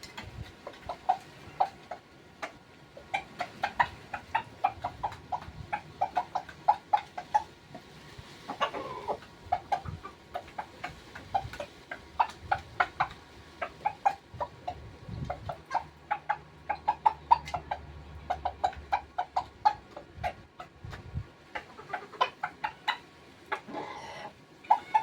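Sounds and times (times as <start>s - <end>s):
rooster pecking feed: 0.0s - 24.0s.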